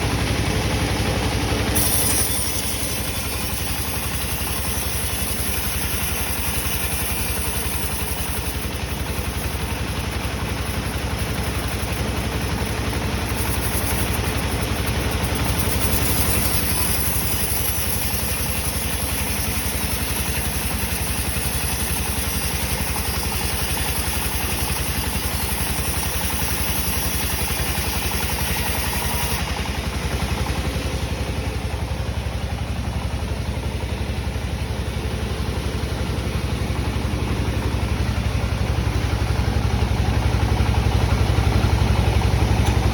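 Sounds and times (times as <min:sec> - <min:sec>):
wheel saw running: 0:00.0 - 0:42.9.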